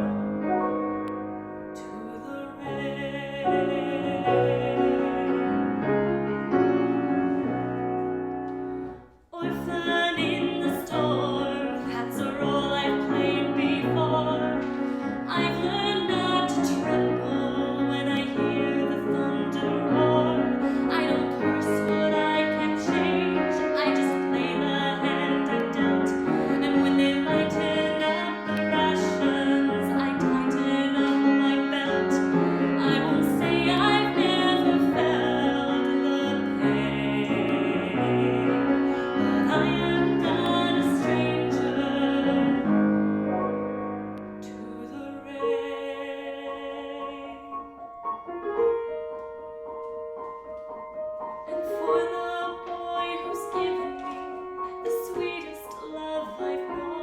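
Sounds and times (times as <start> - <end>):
piano accompaniment: 0.0 - 57.0
woman singing a ballad: 1.8 - 5.7, 9.4 - 43.0, 44.4 - 47.8, 51.4 - 57.0.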